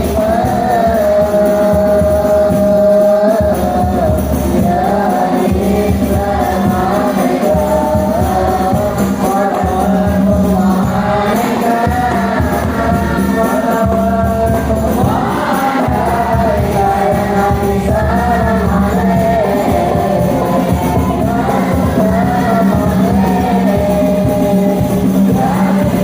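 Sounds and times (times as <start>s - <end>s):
backing choir: 0.0s - 26.0s
child singing: 0.0s - 26.0s
steady beat: 0.0s - 26.0s.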